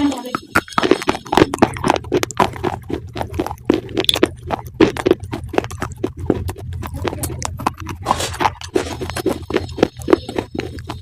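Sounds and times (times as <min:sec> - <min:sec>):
crunchy chewing: 0:00.0 - 0:11.0
steady low hum: 0:00.0 - 0:11.0.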